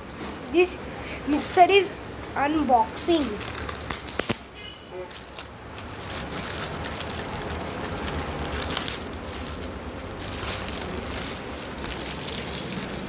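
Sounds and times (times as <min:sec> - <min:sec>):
packaging crackling and rustling: 0:00.0 - 0:13.0.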